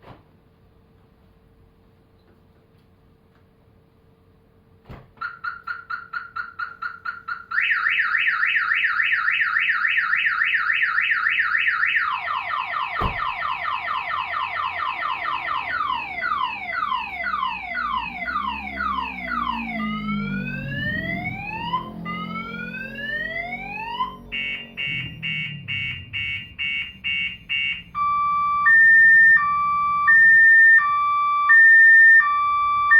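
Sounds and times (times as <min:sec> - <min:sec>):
car alarm siren: 0:05.2 - 0:32.9.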